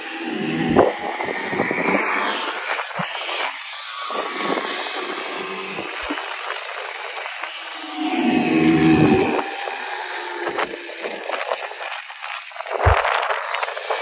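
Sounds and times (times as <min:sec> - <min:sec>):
quad bike engines running: 0:00.0 - 0:02.6, 0:03.9 - 0:14.0
steady hiss: 0:00.0 - 0:14.0.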